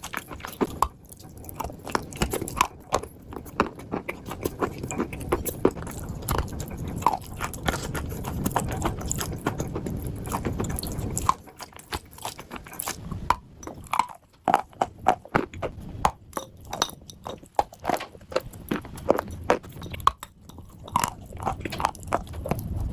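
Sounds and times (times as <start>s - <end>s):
person chewing crunchy clay: 0.0s - 22.9s.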